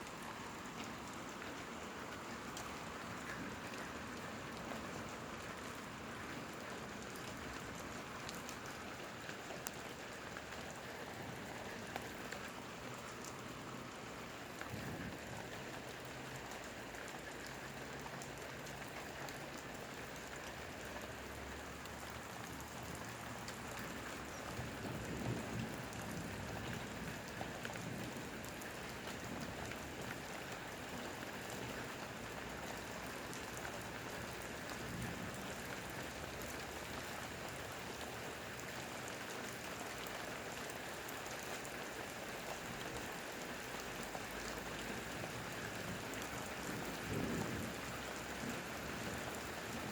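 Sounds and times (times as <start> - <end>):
rain falling: 0.0 - 49.9
raindrops ticking: 0.0 - 49.9.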